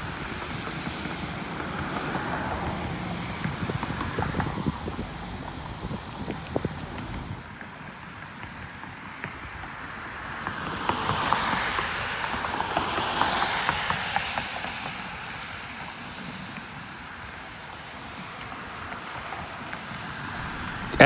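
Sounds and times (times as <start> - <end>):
car tyres hissing on road: 0.0 - 21.0.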